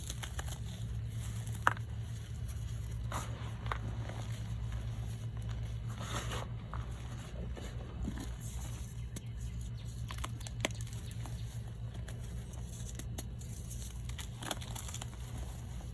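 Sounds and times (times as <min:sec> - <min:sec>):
chalk blocks crunching: 0:00.0 - 0:15.9
steady low hum: 0:00.0 - 0:15.9.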